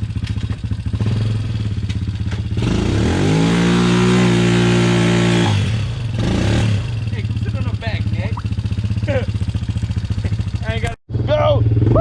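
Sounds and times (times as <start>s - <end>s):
atv engine idling and revving: 0.0s - 12.0s.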